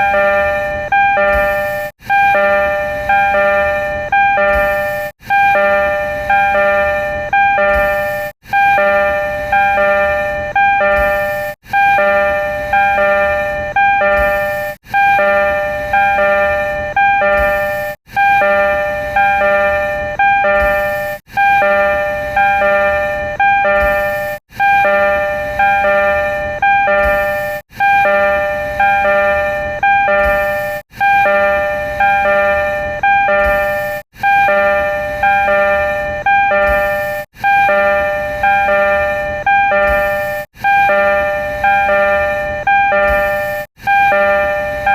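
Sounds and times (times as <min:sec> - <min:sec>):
three-note electronic door chime: 0:00.0 - 0:44.9.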